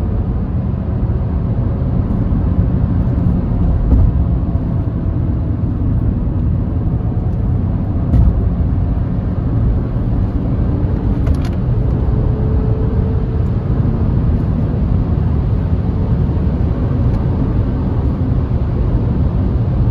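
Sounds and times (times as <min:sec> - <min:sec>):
car engine running: 0:00.0 - 0:19.9.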